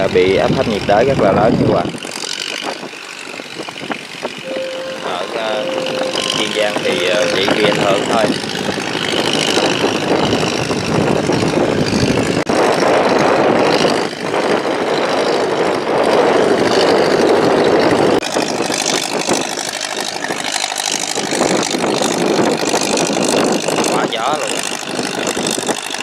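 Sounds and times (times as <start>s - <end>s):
wind: 0.0s - 26.0s
boat engine running: 0.7s - 26.0s.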